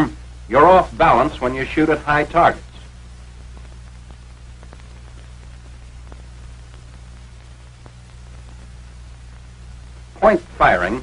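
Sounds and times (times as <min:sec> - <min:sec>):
faint crackles and clicks: 0:00.0 - 0:11.0
low hum: 0:00.0 - 0:11.0
steady hiss: 0:00.0 - 0:11.0.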